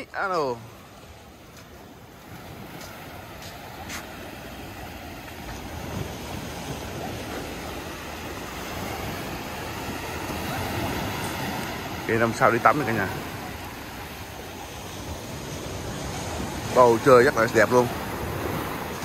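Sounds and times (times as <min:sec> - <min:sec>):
sea surf: 0:00.0 - 0:19.0
wind rumbling on microphone: 0:01.2 - 0:19.0.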